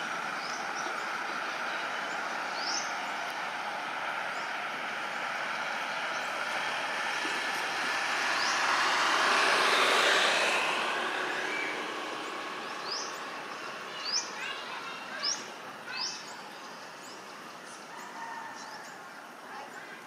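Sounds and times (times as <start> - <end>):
broad rushing noise: 0.0 - 20.0.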